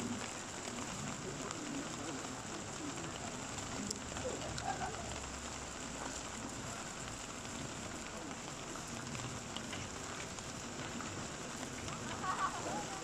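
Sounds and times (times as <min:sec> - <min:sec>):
brush fire crackling: 0:00.0 - 0:13.0.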